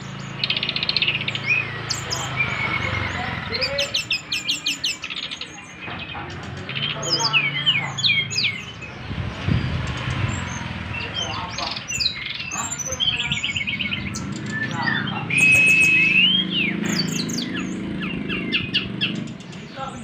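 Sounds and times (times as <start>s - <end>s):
bird singing chirps and trills: 0.0s - 20.0s.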